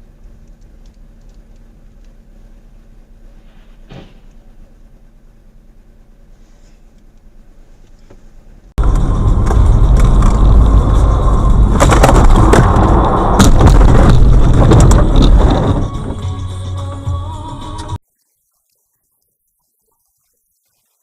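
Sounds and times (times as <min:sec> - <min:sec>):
distorted rumbling clatter: 0:00.0 - 0:06.3, 0:06.9 - 0:18.0.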